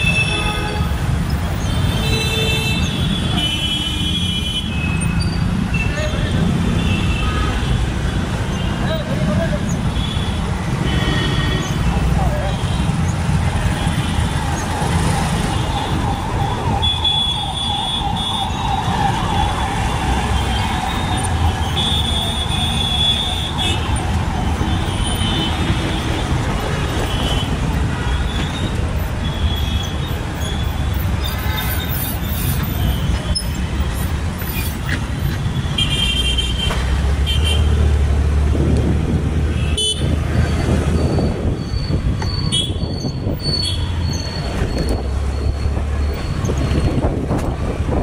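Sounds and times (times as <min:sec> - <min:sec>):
engine rumble and road noise: 0:00.0 - 0:48.0.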